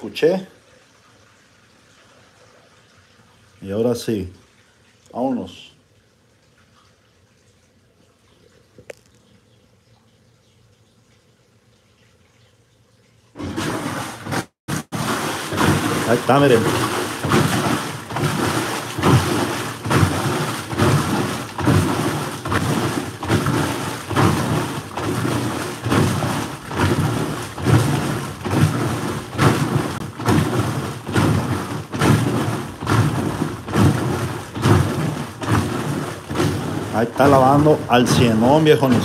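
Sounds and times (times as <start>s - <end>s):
washing machine water sloshing: 0.0s - 39.0s.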